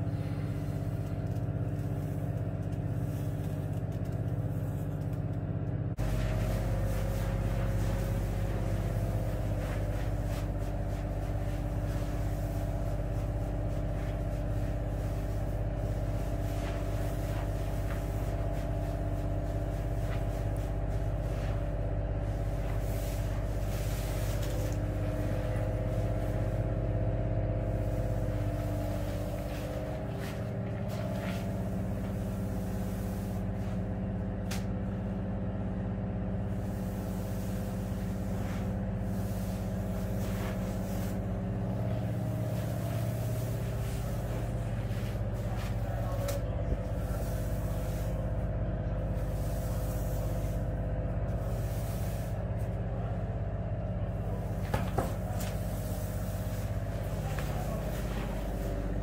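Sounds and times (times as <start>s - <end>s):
pump machine droning: 0.0s - 59.0s.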